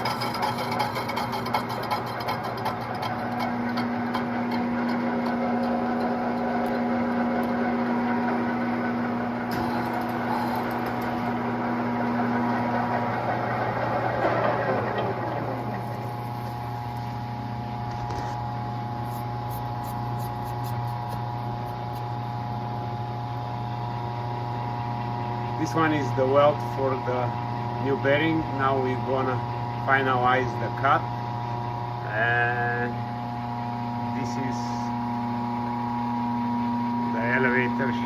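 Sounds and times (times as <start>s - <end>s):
lathe whining: 0.0s - 32.0s
metal lathe humming: 0.0s - 32.1s.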